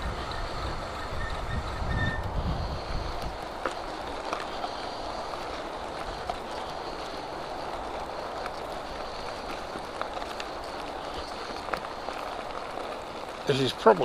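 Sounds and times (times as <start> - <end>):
bike tyres rolling: 0.0 - 14.0.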